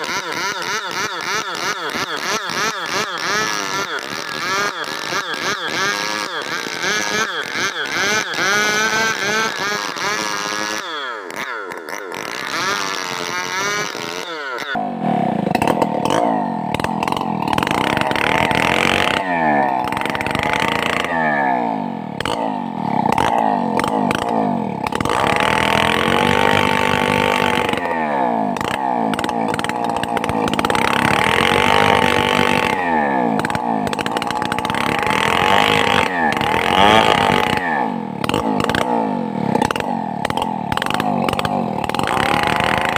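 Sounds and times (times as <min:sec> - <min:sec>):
chainsaw cutting timber: 0:00.0 - 0:42.9.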